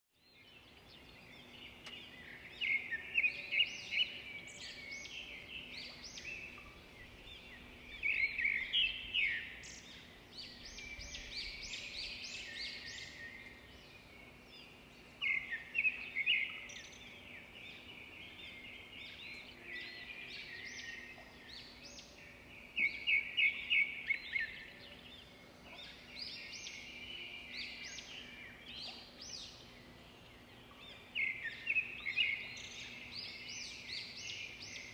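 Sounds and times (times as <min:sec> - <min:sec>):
songbirds chirping and trilling: 0:00.1 - 0:34.9
faint steady hum: 0:00.4 - 0:34.9.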